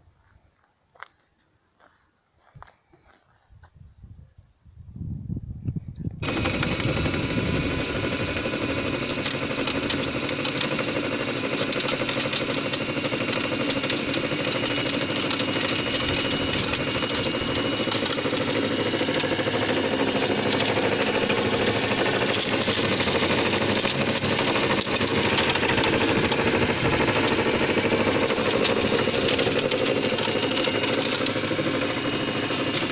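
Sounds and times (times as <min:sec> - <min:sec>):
machine high whine: 0:06.2 - 0:32.9
thresher clattering bean pods: 0:06.2 - 0:32.9.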